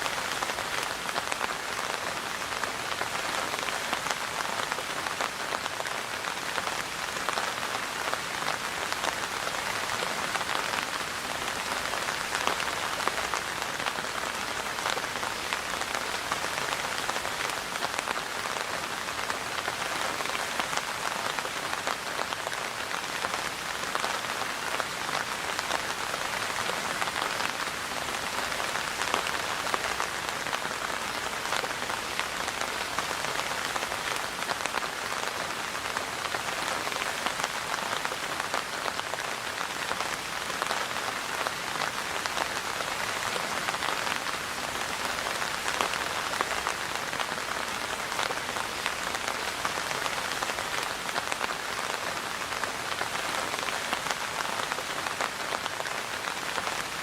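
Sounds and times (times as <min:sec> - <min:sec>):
steady rain pattering: 0:00.0 - 0:57.0.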